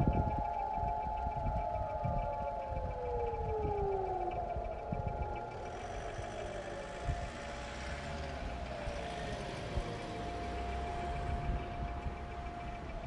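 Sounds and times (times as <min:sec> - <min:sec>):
siren steady tone: 0:00.0 - 0:13.0
siren winding down: 0:00.0 - 0:13.0.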